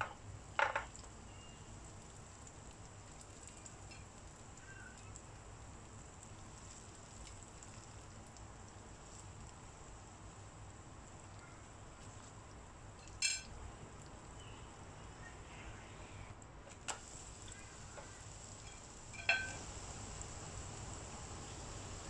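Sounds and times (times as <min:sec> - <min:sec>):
pancake sizzling in oil: 0:00.0 - 0:14.9, 0:16.7 - 0:22.0.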